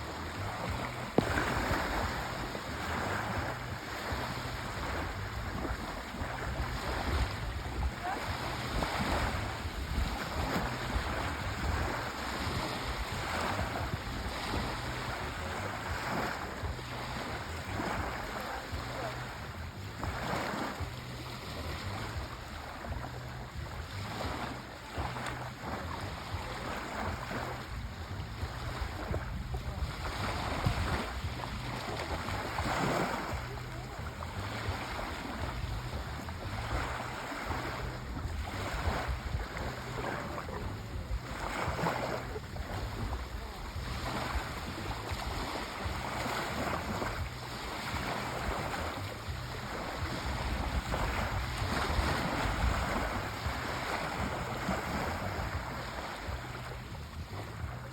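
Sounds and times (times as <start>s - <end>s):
sea waves washing onto shore: 0.0s - 57.9s.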